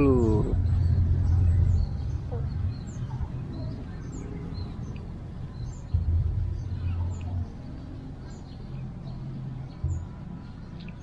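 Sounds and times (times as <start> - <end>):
low rumble: 0.0 - 10.8
small birds chirping: 0.0 - 11.0.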